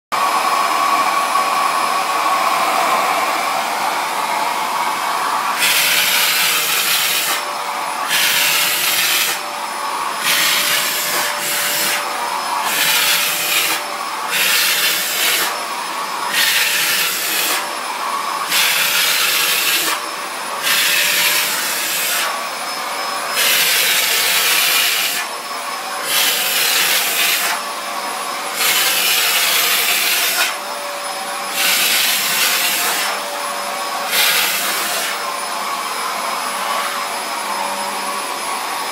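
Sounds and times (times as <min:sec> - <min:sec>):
vacuum cleaner running: 0:00.1 - 0:38.9.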